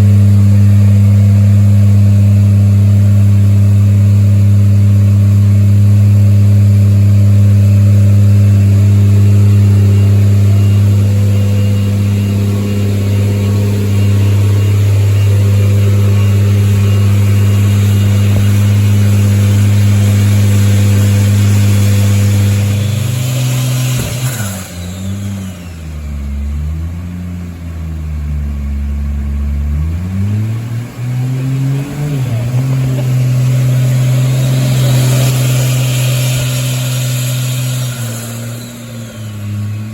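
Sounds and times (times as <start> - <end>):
car engine running loud: 0.0 - 39.9.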